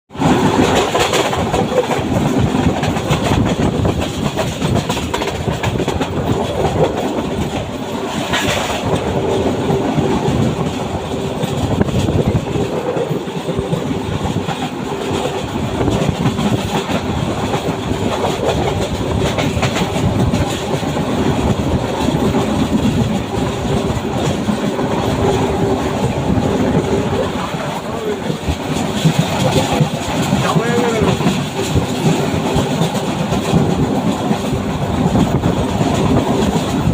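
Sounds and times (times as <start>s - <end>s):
train hum: 0.1s - 36.9s
train wheels clattering: 0.1s - 36.9s.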